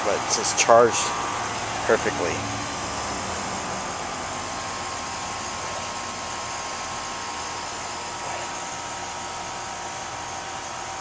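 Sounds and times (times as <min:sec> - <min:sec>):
condenser fan air rush: 0:00.0 - 0:11.0
faint steady whine: 0:00.0 - 0:11.0.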